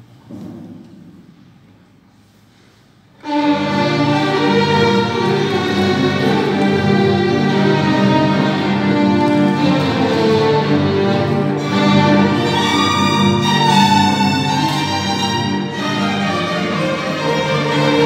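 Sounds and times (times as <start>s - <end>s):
string ensemble playing classical: 3.2s - 18.0s.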